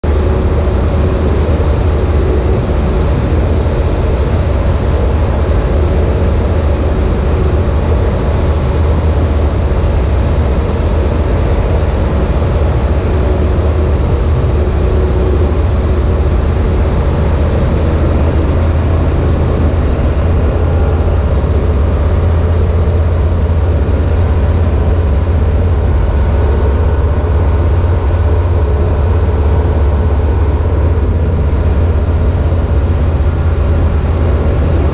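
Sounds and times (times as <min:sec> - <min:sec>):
light aircraft engine drone: 0:00.0 - 0:34.9.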